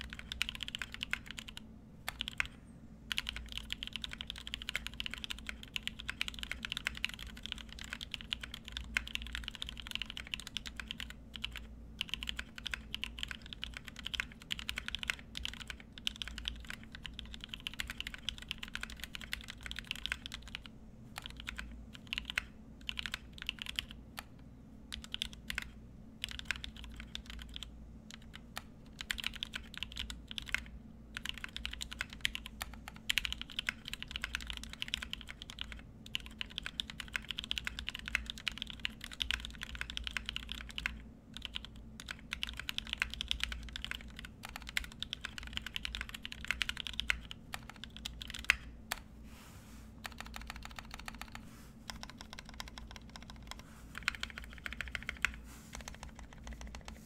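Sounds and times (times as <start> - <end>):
mechanical keyboard typing: 0.0 - 49.1, 50.0 - 57.0.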